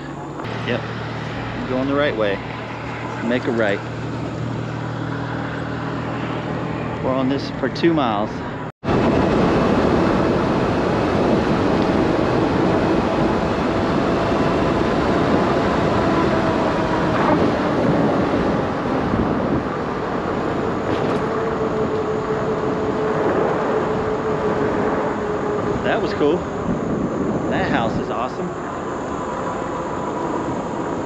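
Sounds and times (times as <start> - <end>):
faint steady whine: 0.0 - 31.0
tyre road noise: 0.0 - 31.0
wind noise: 0.0 - 31.0.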